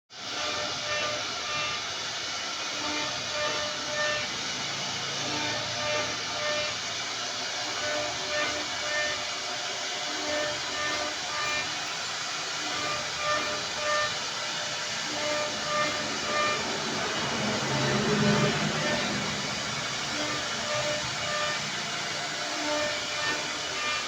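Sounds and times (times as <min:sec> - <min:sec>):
router cutting wood hissing: 0:00.1 - 0:24.0
motor tones changing speed: 0:00.2 - 0:24.0.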